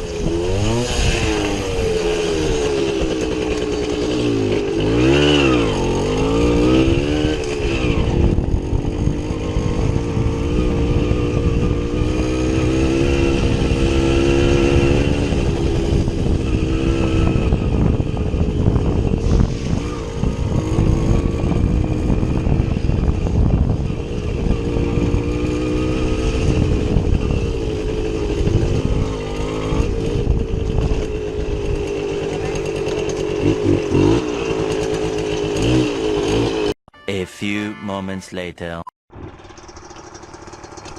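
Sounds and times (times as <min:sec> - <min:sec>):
motorcycle engine revving: 0:00.0 - 0:36.8, 0:39.1 - 0:40.9.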